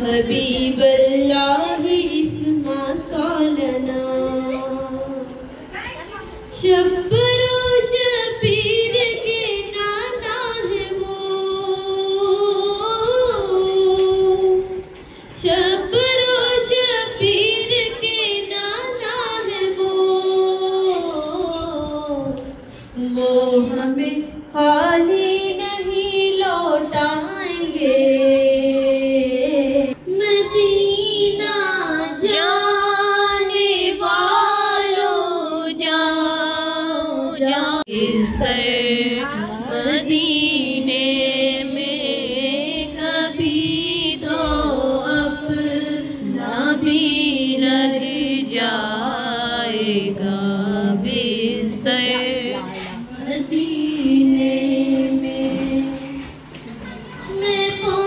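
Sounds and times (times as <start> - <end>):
woman reciting in high voice: 0.0 - 22.4, 23.0 - 50.0, 51.0 - 58.0.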